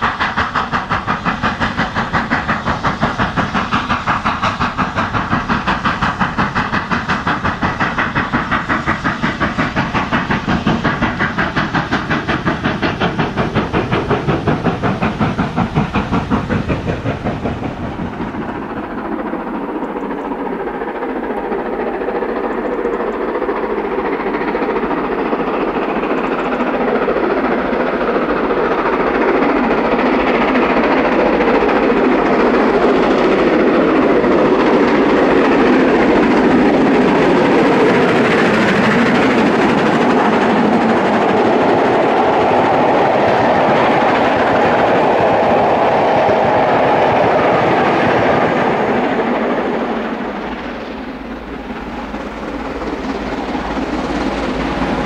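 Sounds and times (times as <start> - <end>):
steam locomotive exhaust: 0.0 - 55.0.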